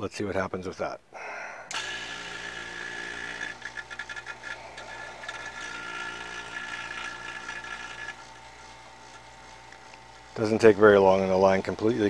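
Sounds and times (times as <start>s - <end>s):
vacuum pump running: 1.7s - 12.0s.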